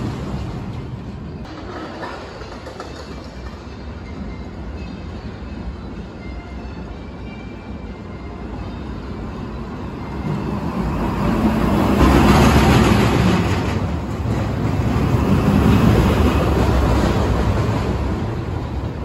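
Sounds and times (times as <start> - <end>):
roller coaster train rumbling: 0.0 - 6.2, 8.4 - 19.0.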